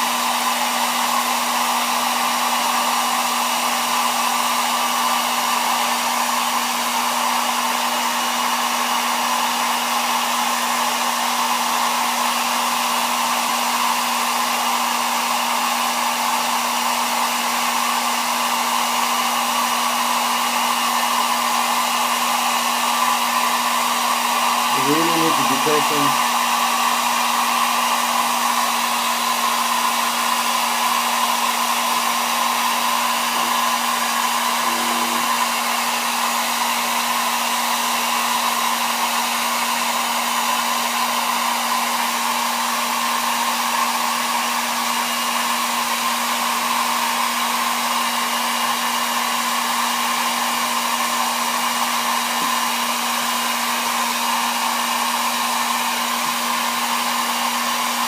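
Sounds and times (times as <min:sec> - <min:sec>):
hot-air blower humming: 0:00.0 - 0:58.0.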